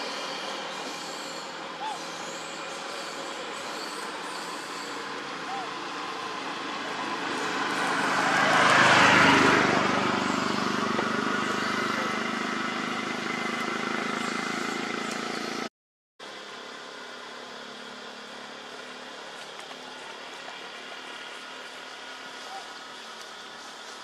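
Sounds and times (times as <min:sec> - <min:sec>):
engine-like hum: 0:00.0 - 0:24.0.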